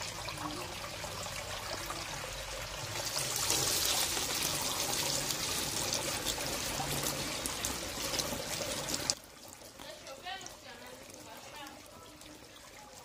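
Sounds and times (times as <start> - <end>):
shallow water trickling: 0.0 - 13.0.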